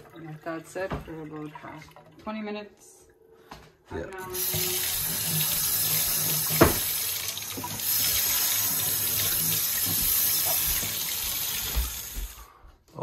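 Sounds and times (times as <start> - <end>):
water running from tap into sink: 0.0 - 2.6, 4.2 - 12.4.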